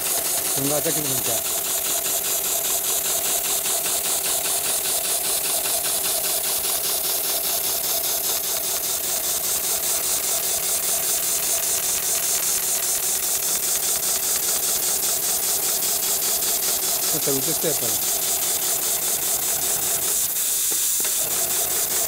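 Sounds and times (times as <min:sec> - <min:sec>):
stitching machine clatter: 0:00.0 - 0:22.0.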